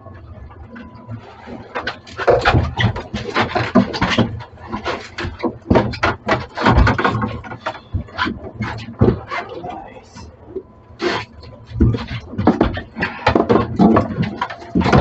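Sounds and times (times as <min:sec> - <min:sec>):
rapid irregular knocking: 0:01.6 - 0:09.6, 0:10.6 - 0:15.0.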